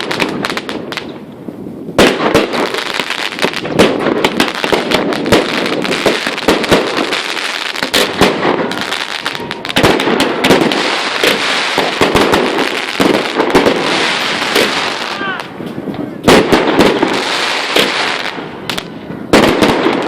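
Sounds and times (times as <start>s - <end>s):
firework bangs: 0.0s - 20.0s
firework crackle: 0.0s - 20.0s.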